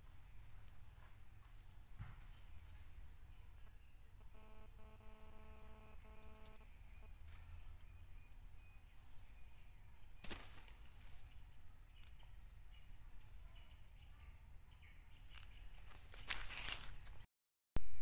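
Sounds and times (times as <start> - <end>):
insect drone: 0.0 - 17.2.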